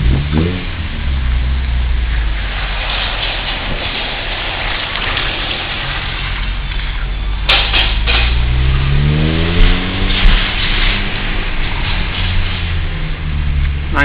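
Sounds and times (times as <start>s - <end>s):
car engine revving: 0.0s - 14.0s
road noise: 0.0s - 14.0s.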